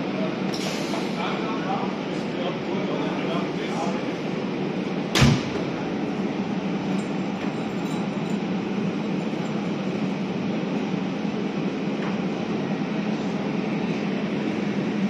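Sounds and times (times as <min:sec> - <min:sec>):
train rumbling slowly: 0:00.0 - 0:15.0.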